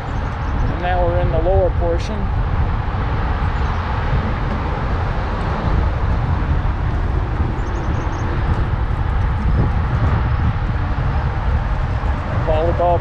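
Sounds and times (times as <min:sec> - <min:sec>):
mountain bike tyre noise: 0:00.0 - 0:13.0
wind rumble on microphone: 0:00.0 - 0:13.0.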